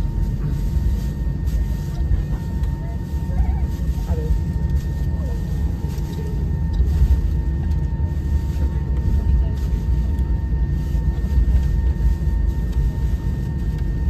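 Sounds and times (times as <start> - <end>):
faint steady whine: 0.0 - 14.0
jet engines and gear rumble: 0.0 - 14.0.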